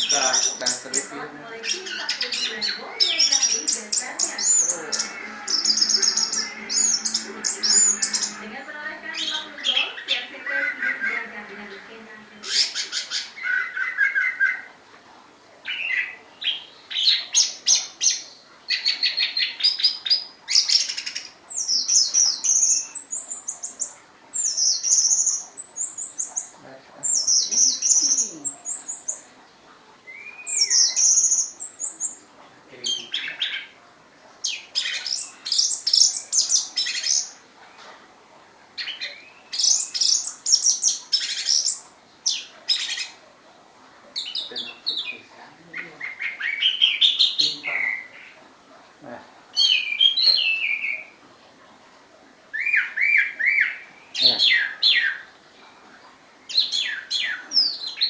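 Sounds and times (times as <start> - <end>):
thrush singing chattering trills: 0.0 - 37.8, 38.6 - 43.4, 44.0 - 51.2, 52.5 - 58.0.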